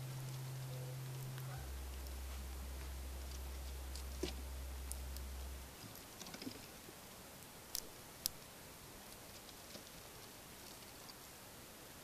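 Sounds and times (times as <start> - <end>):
squirrel cracking seeds: 0.0 - 11.4
low steady hum: 0.0 - 12.0.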